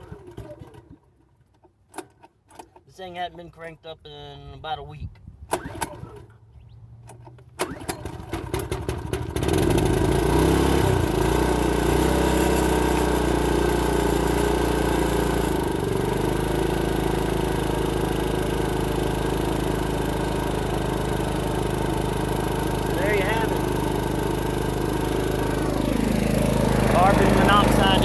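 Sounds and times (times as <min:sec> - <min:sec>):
generator engine cranking and running: 0:00.0 - 0:03.0, 0:05.5 - 0:06.4, 0:07.0 - 0:28.0.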